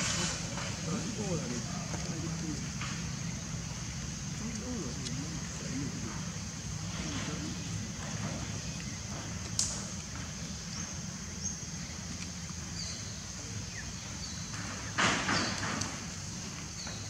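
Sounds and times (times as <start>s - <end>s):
insect buzz: 0.0s - 17.0s.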